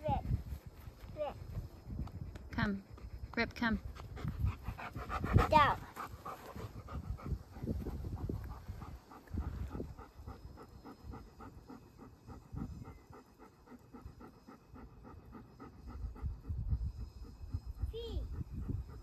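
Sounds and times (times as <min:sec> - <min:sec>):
dog panting: 0:00.1 - 0:19.0.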